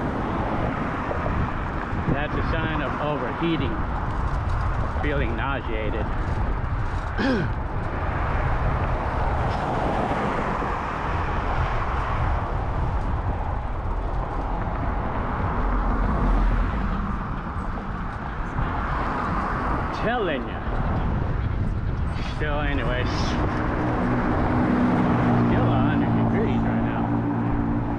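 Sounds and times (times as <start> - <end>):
bicycle road noise: 0.0 - 27.9
rushing wind: 0.0 - 27.9.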